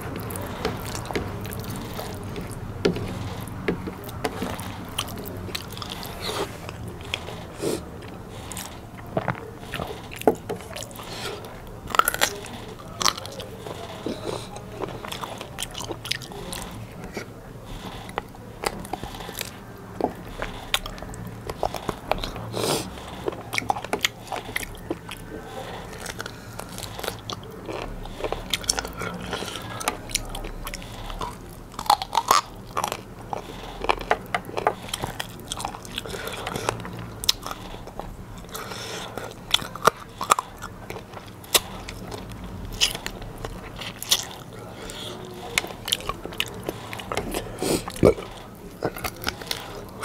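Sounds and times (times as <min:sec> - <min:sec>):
bone crunching: 0:00.0 - 0:50.0
person chewing chicken on bone: 0:00.0 - 0:50.0.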